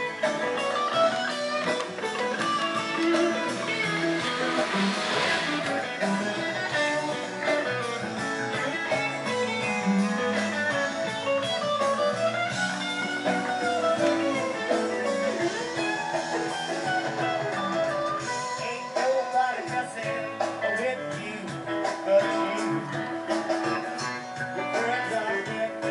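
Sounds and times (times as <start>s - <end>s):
guitar background music: 0.0s - 25.9s.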